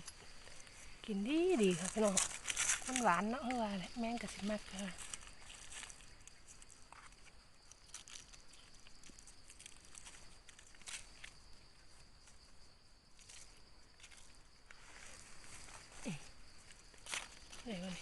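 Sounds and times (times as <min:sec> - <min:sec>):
rustling in dry leaves: 0:00.0 - 0:18.0.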